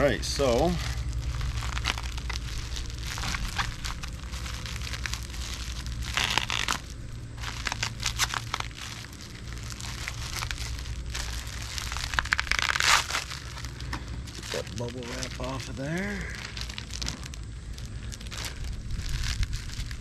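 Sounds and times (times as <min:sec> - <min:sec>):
bubble wrap crinkling: 0:00.0 - 0:20.0
steady low hum: 0:00.0 - 0:20.0.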